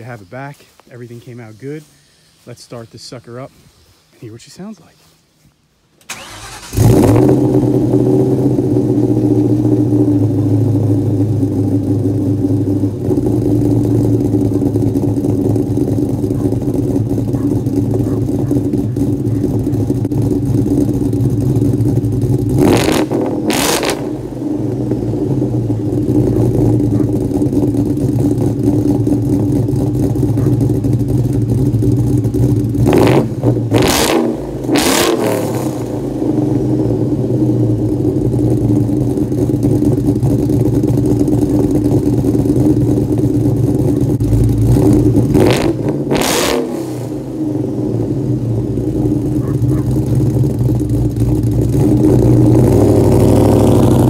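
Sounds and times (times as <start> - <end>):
car engine idling and revving: 0.0 - 2.4, 5.8 - 54.0.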